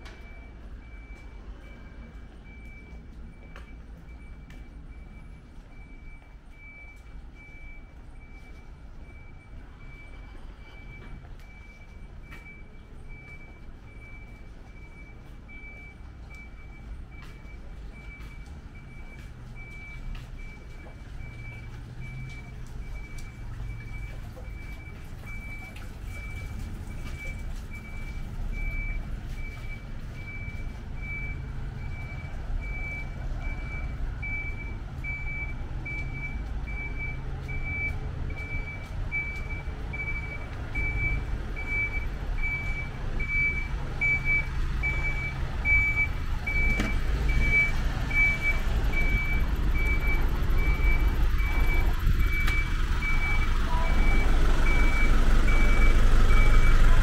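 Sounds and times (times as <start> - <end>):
low engine rumble: 0.0 - 57.0
truck reversing alarm beeping: 0.0 - 57.0.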